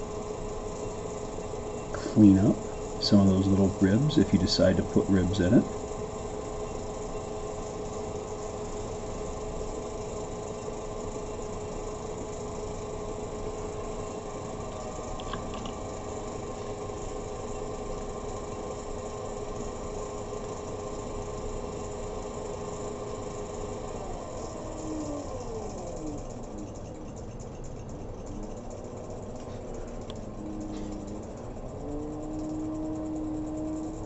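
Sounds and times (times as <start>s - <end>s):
pottery wheel motor hum: 0.0s - 34.0s.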